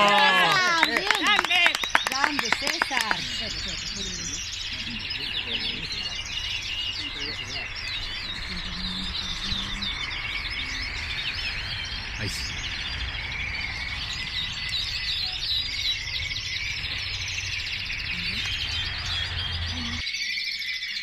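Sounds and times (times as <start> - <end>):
canaries chirping and singing: 1.1 - 21.0.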